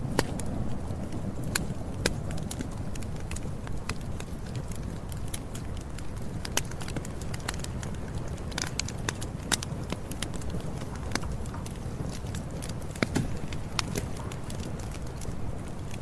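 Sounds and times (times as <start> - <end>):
campfire wood crackling and popping: 0.0 - 16.0
low fire rumble: 0.0 - 16.0.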